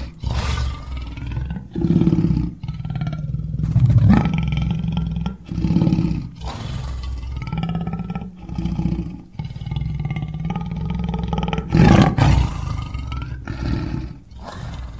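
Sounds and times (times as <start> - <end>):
lion roaring: 0.0 - 14.9.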